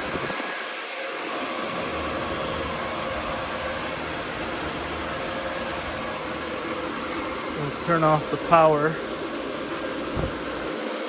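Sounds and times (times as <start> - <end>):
cooling fans whirring: 0.0 - 11.0.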